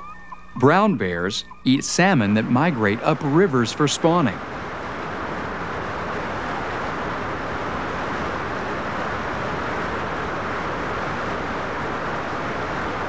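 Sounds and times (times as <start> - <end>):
churning white water: 1.7 - 13.0
waterfall rushing: 1.7 - 13.0.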